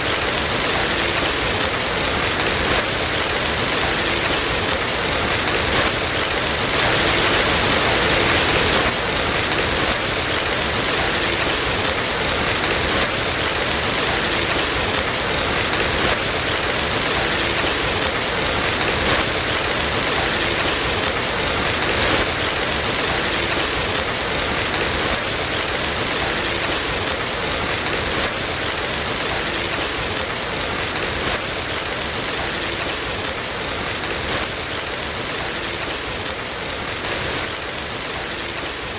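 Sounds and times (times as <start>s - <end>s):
dense rain falling: 0.0s - 38.9s.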